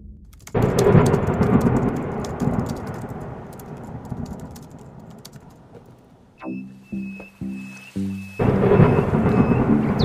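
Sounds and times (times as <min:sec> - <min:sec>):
crackling rumbling noise: 0:00.0 - 0:06.5, 0:07.3 - 0:10.0.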